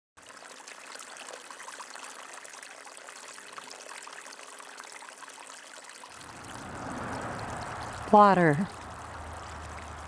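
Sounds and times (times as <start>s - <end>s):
water trickling: 0.2s - 10.0s.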